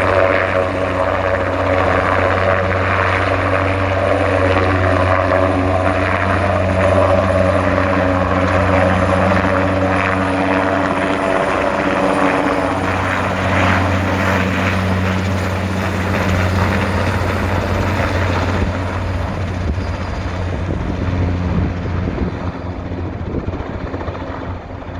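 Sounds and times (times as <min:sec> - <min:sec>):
helicopter rotor drone: 0:00.0 - 0:24.9.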